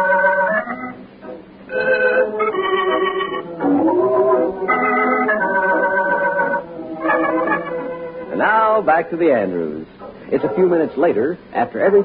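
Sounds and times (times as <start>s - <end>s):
organ chords: 0.0s - 12.0s.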